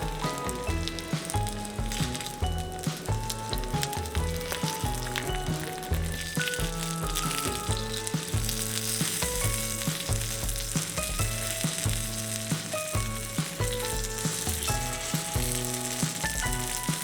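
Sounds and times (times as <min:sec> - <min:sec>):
background music: 0:00.0 - 0:17.0
food sizzling in a pan: 0:00.0 - 0:17.0.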